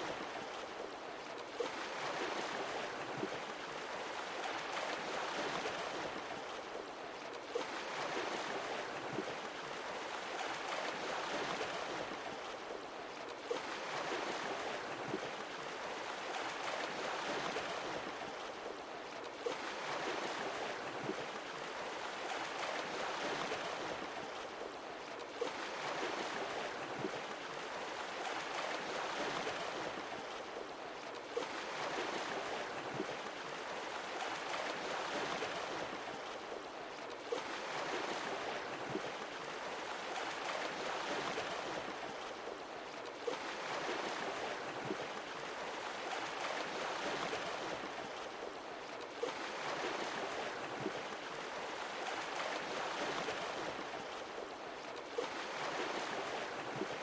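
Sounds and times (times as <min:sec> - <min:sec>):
sea waves washing on shore: 0:00.0 - 0:57.0.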